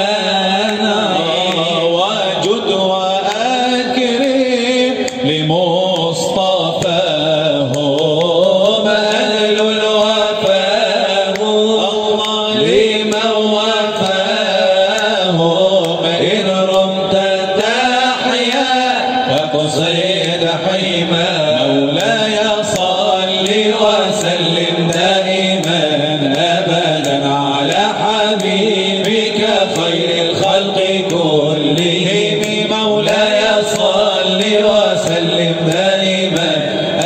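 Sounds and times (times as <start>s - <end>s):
male voice chanting melody: 0.0s - 37.0s.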